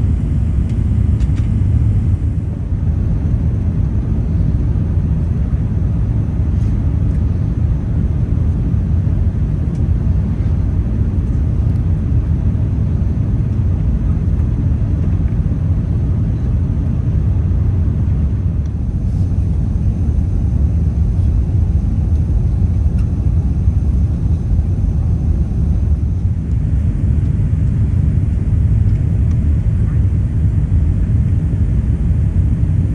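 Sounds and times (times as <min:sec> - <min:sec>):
airplane cabin engine rumble: 0:00.0 - 0:32.9.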